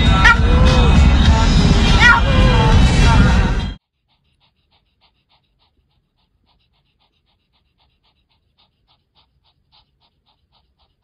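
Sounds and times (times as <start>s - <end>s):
cat panting: 0.0s - 11.0s.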